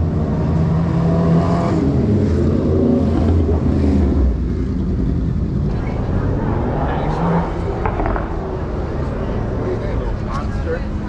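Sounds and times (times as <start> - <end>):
car engine accelerating: 0.0 - 11.0
low traffic rumble: 0.0 - 11.0.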